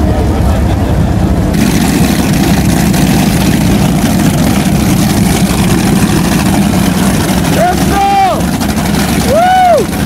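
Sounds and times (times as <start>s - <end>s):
powerboat engines idling: 0.0s - 10.0s.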